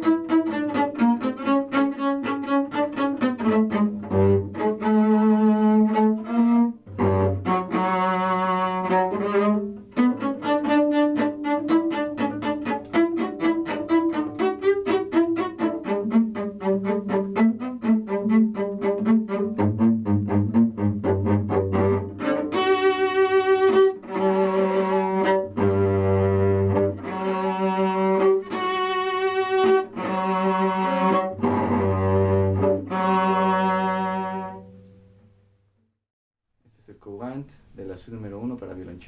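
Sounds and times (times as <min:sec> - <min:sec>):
bowed cello notes: 0:00.0 - 0:35.2.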